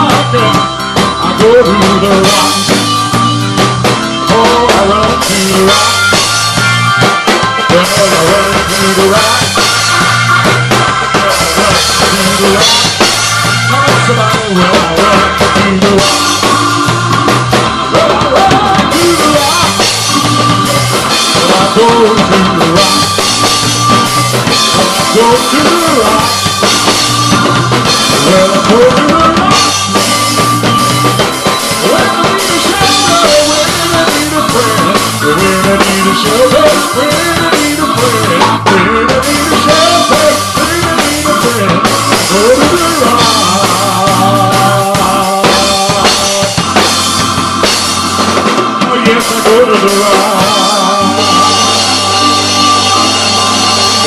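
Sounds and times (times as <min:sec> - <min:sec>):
drum kit beat: 0:00.0 - 0:54.0
electric keyboard chords: 0:00.0 - 0:54.0.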